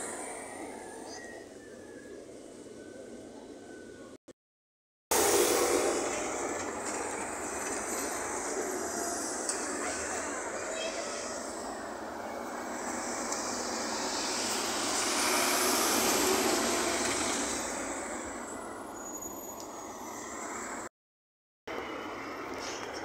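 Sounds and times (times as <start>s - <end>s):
bus passing by: 0.0s - 4.2s, 5.1s - 20.9s, 21.7s - 23.0s.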